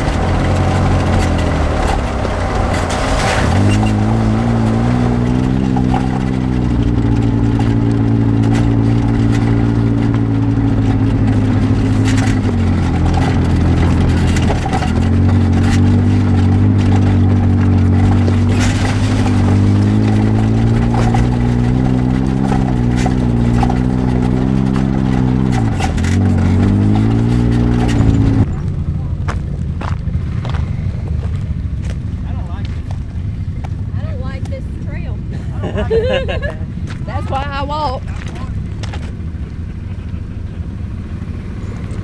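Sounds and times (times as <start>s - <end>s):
engine running under throttle: 0.0s - 42.0s.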